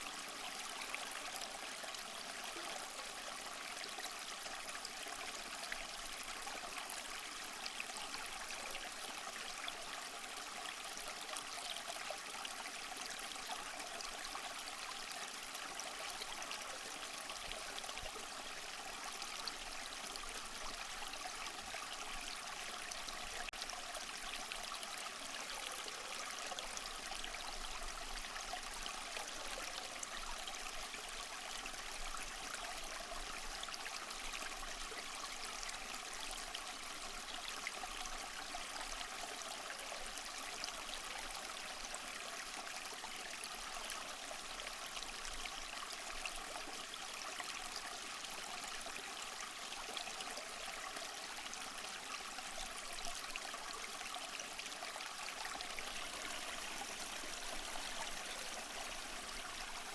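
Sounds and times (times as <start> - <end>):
small waterfall splashing: 0.0 - 3.2, 11.4 - 59.9.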